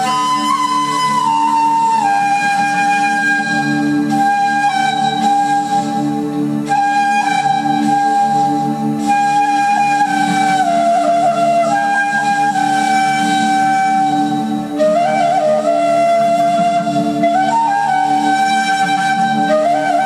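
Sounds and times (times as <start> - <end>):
bamboo flute melody: 0.0 - 20.0
low backing accompaniment: 0.0 - 20.0.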